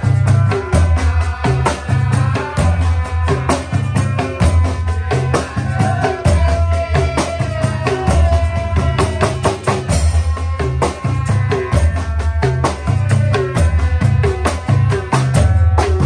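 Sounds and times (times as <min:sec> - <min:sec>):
sharp clicking percussion: 0:00.0 - 0:16.0.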